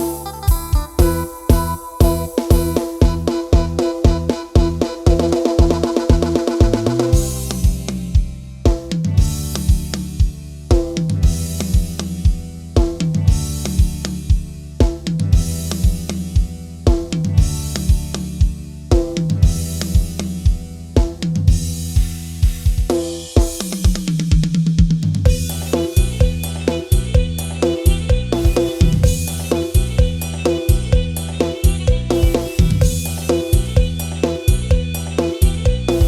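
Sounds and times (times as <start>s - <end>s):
folk-rock band music: 0.0s - 36.0s.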